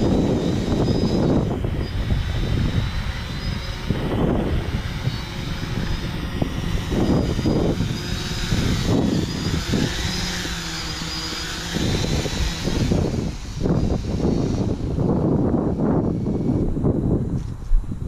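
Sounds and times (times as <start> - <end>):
drone propellers whirring: 0.0 - 18.0
wind gusts on microphone: 0.0 - 18.0.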